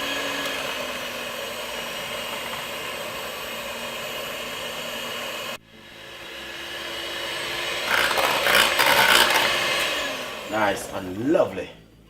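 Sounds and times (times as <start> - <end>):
electric blender running: 0.0 - 11.0.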